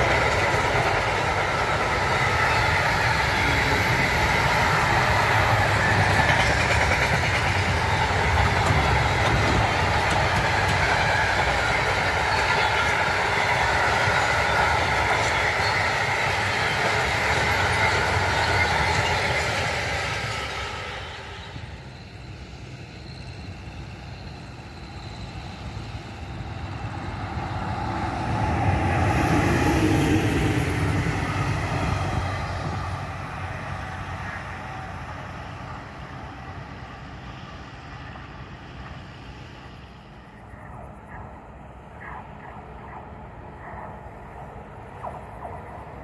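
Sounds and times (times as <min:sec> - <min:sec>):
electric locomotive passing: 0:00.0 - 0:46.0
freight train rolling on rails: 0:00.0 - 0:46.0.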